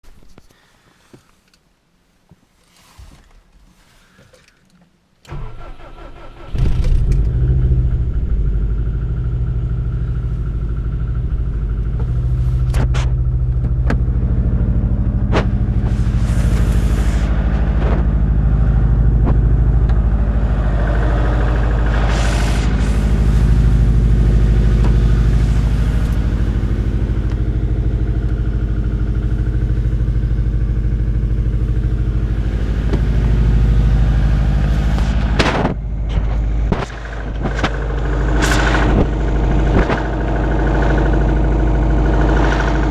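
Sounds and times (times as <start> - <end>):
car engine fast idle: 5.3 - 35.6, 36.7 - 42.9
engine knock: 6.7 - 42.9.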